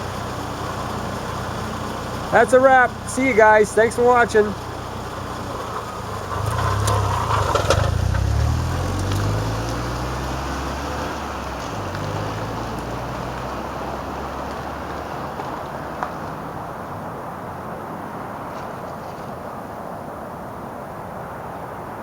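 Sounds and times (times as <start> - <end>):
vehicle engine hum: 0.0 - 20.3
road traffic noise: 0.0 - 22.0.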